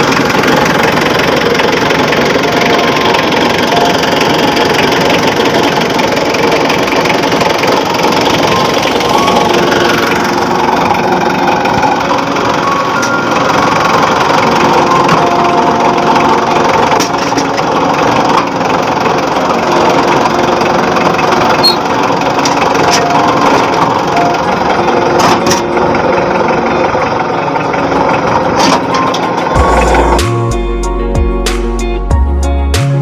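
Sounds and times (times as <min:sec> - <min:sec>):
forklift engine running: 0:00.0 - 0:33.0.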